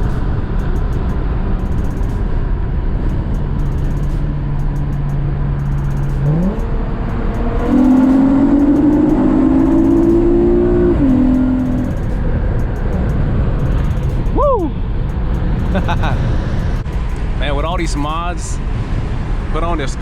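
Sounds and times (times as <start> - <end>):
car engine accelerating: 0.0 - 19.6.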